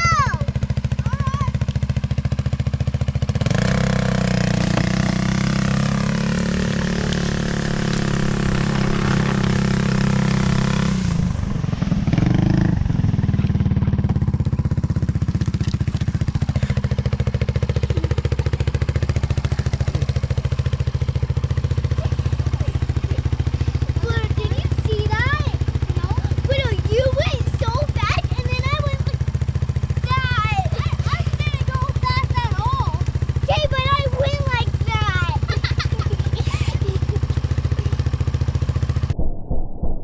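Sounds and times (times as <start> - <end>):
vehicle engine running: 0.0 - 39.2.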